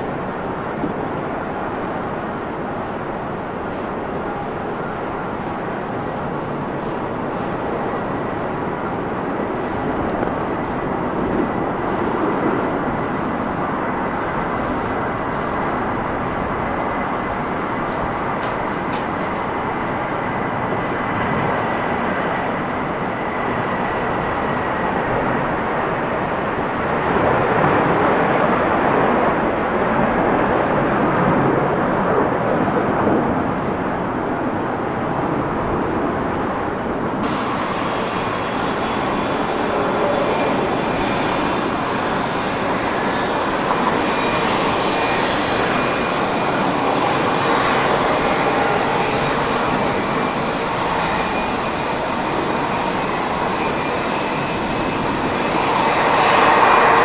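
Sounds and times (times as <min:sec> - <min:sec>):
high jet whine: 0:00.0 - 0:57.0
jet airliner roar: 0:00.0 - 0:57.0.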